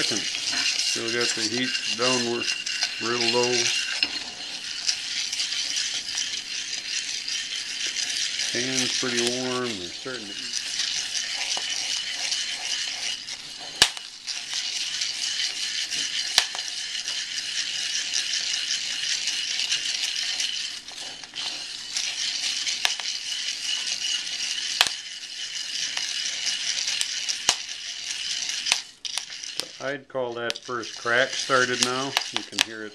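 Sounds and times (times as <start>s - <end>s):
beans stirred with wooden spoon: 0.0s - 32.9s
coffee beans popping: 0.0s - 32.9s.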